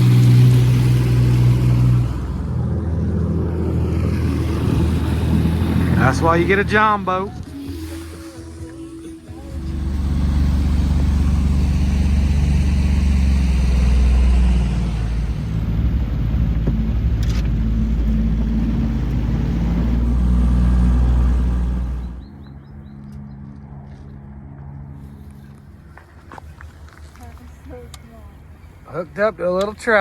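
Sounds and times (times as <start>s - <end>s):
outboard motor rumbling: 0.0s - 30.0s.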